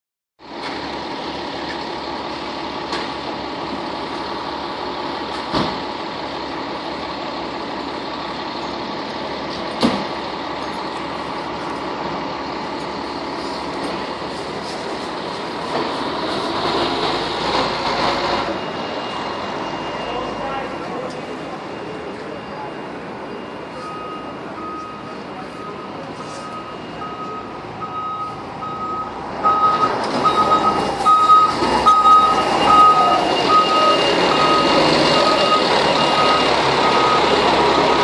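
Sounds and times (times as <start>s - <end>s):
fire engine diesel running: 0.4s - 38.0s.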